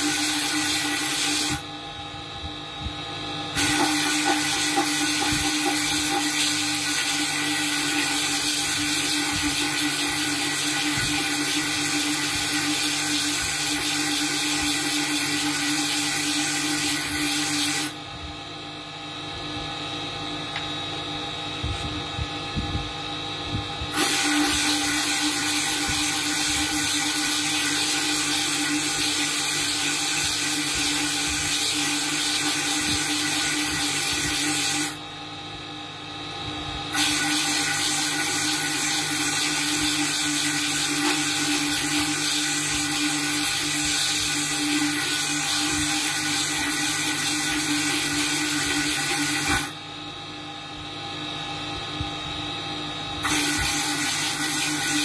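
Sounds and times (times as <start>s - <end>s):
electric spindle humming: 0.0s - 51.2s.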